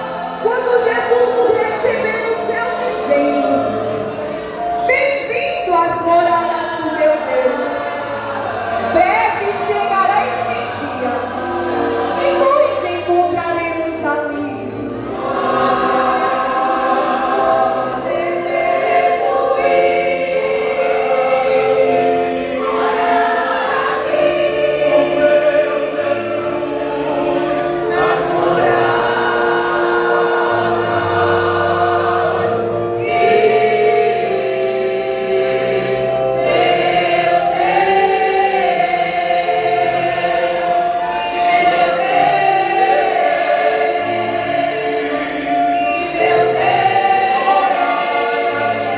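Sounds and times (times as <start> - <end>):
vocal group singing gospel: 0.0 - 48.9.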